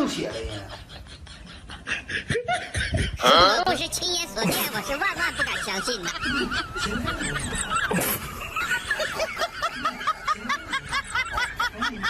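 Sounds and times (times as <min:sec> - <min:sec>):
person giggling: 0:00.2 - 0:03.7, 0:04.4 - 0:12.0.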